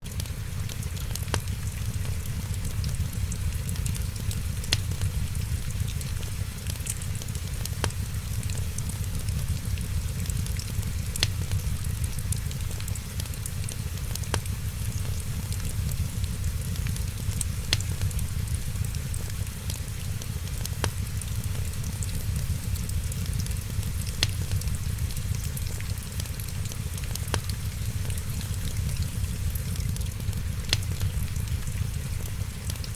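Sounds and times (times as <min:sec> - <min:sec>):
light rain: 0:00.0 - 0:32.9
steady low rumble: 0:00.0 - 0:32.9
wood fire crackling: 0:00.1 - 0:32.9
sharp pops of fire: 0:00.2 - 0:32.6.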